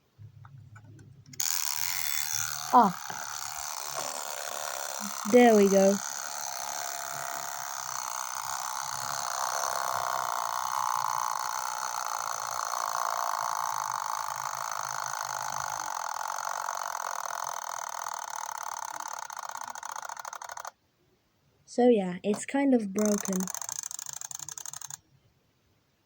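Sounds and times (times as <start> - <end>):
mechanical alarm clock ringing: 1.4 - 20.7, 23.0 - 25.0.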